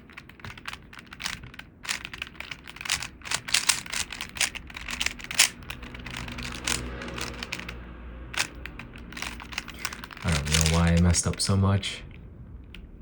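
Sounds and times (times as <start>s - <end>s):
puzzle cube clicking: 0.0s - 7.7s, 8.3s - 11.5s.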